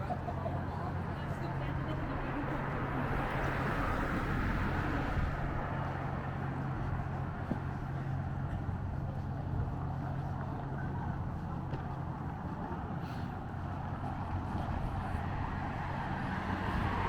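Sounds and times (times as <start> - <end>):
large engine humming: 0.0 - 17.0.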